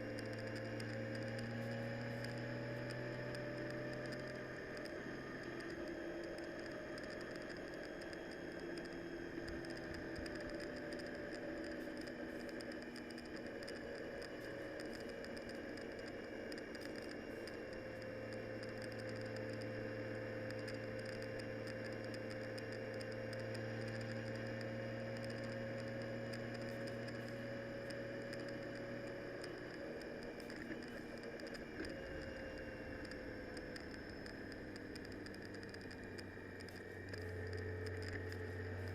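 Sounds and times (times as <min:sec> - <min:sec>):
vehicle hum: 0:00.0 - 0:38.9.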